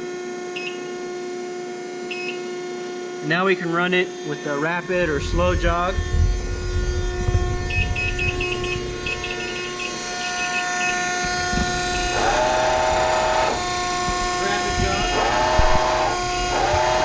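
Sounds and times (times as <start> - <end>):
two-tone machine whine: 0.0 - 17.0.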